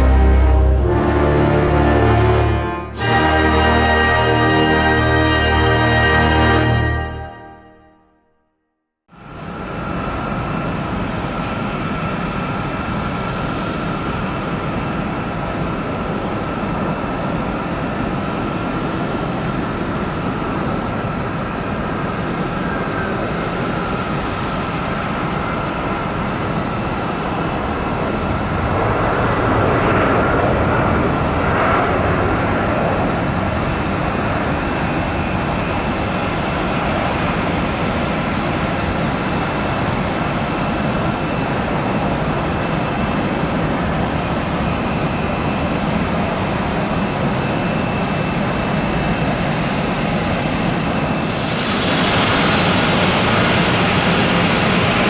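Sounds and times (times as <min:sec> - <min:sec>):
jet engines whining: 0:00.0 - 0:07.7, 0:09.2 - 0:55.0.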